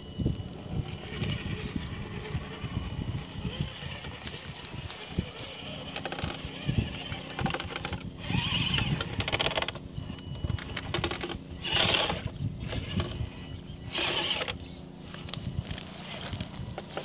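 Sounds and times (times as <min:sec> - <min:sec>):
rc car motor whirring: 0:00.1 - 0:17.0.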